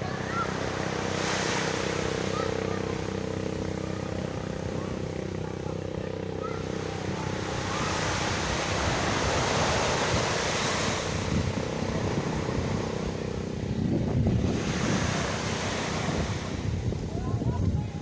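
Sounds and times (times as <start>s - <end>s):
sea surf washing in: 0.0s - 18.0s
wind on microphone: 0.0s - 18.0s.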